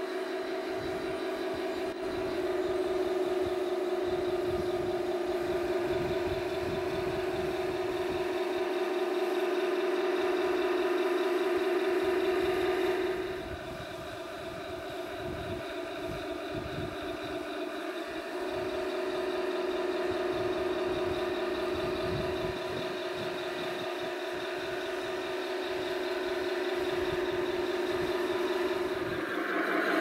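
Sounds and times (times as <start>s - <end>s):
toy tank motor whine: 0.0s - 30.0s.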